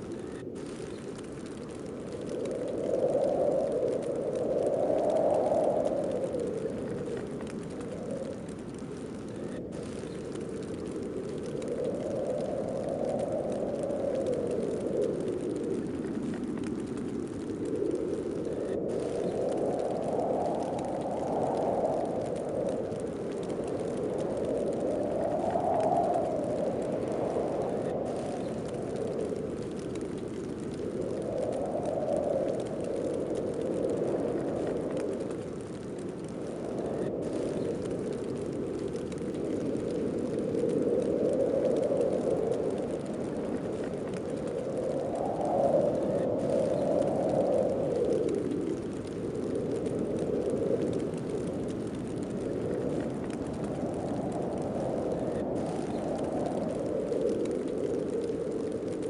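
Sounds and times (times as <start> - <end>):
snowstorm wind blowing: 0.0 - 59.0.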